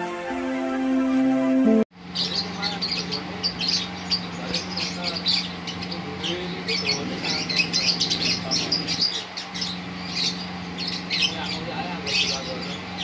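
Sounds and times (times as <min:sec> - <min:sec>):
lovebird chattering high chirps: 0:02.1 - 0:13.0.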